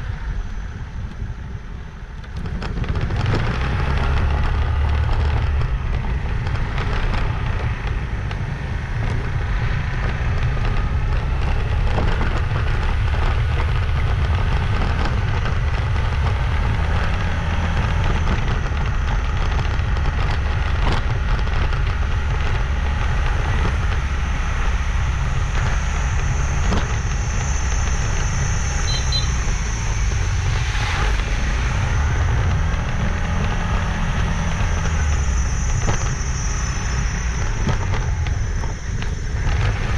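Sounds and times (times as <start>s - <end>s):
motorbike engine: 0.0s - 39.9s
wind noise on microphone: 0.0s - 39.9s
high-pitched whine: 3.2s - 39.9s.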